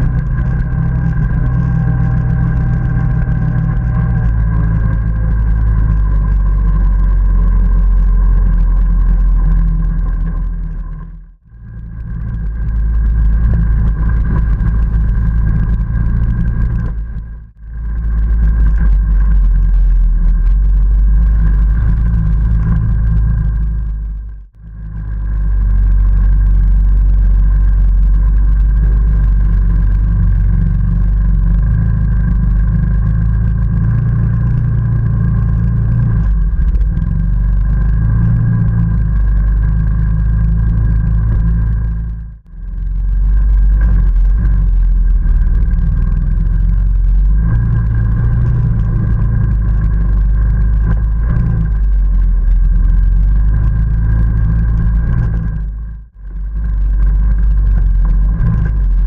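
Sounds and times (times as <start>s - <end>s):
atv engine rumbling with whine: 0.0s - 59.0s.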